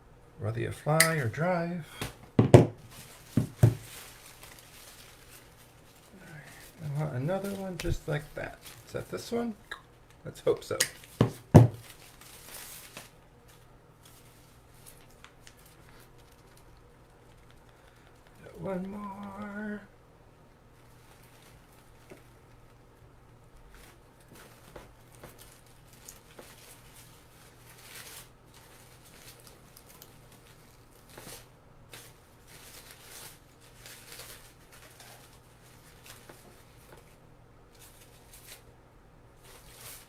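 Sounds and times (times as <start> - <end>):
low steady hum: 0.0 - 40.0
rustling and crinkling: 2.0 - 19.8, 20.5 - 40.0.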